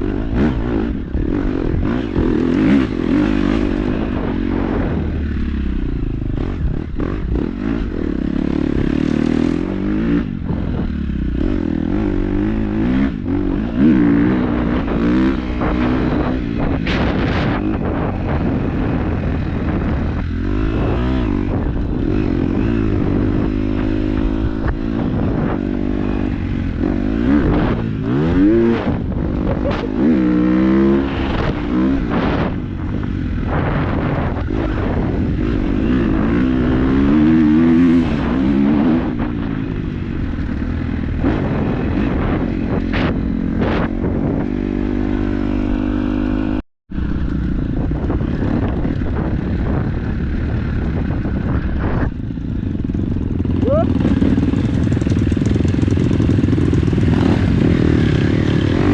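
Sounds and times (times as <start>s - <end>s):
dirt bike engine revving: 0.0s - 46.6s, 48.0s - 58.9s.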